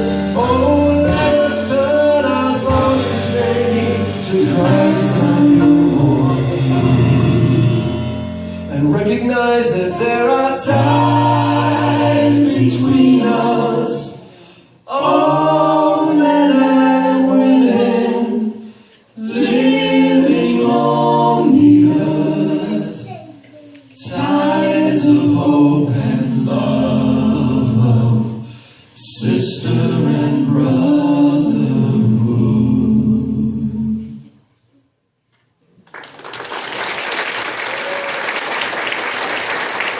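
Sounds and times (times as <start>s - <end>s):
choir singing a cappella: 0.0s - 23.1s, 24.0s - 34.4s.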